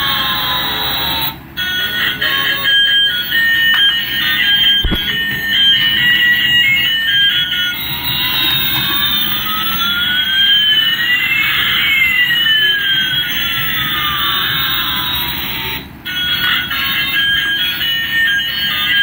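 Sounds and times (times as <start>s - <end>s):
toy beeping melody: 0.0s - 19.0s.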